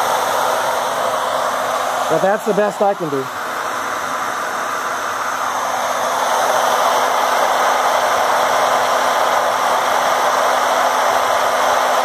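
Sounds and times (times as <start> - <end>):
electric water pump motor hum: 0.0 - 12.0.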